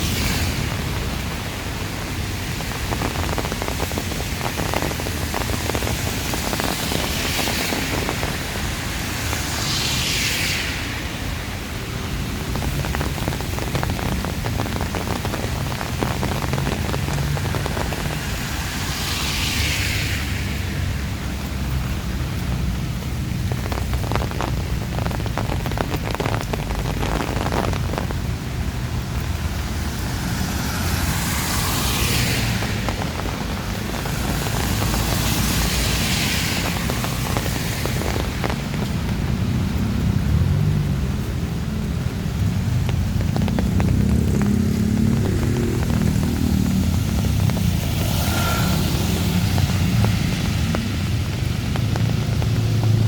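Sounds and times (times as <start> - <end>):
heavy rain pouring: 0.0 - 53.0
strong wind rumble: 0.0 - 53.0
vehicles swishing on wet road: 0.0 - 53.0.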